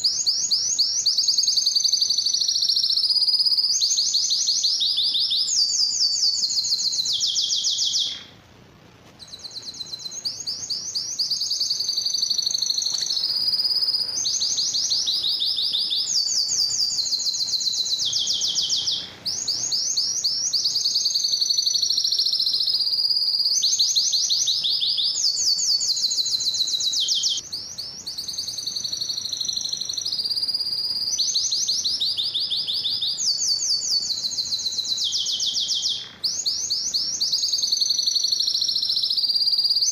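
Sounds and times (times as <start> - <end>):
canary singing trills: 0.0 - 8.4, 9.2 - 39.9.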